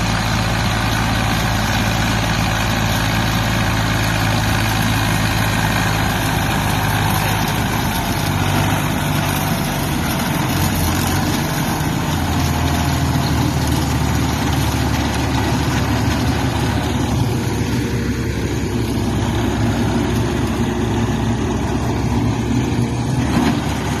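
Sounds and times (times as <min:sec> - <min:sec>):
machinery noise: 0:00.0 - 0:24.0
tractor diesel engine running: 0:00.0 - 0:24.0.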